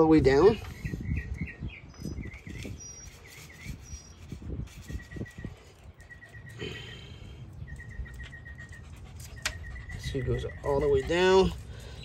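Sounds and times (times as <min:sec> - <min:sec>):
small bird chirping: 0:00.6 - 0:12.0.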